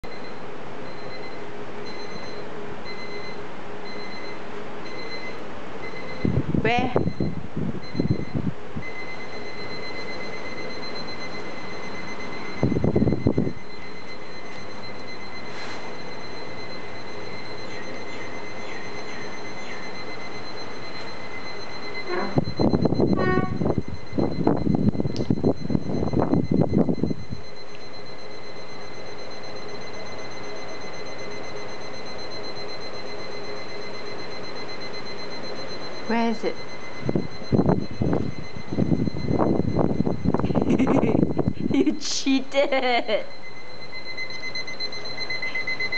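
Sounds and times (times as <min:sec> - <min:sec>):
electronic alarm clock ringing: 0:00.9 - 0:06.3, 0:07.0 - 0:41.7, 0:42.7 - 0:45.9.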